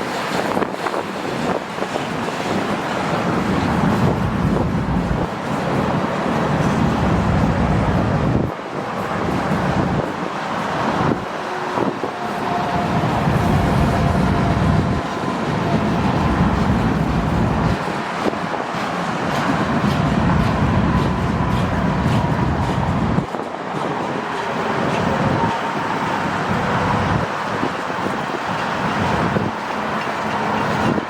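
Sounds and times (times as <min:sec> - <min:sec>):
freight train rolling past: 0:00.0 - 0:31.0
wind buffeting microphone: 0:00.0 - 0:31.0.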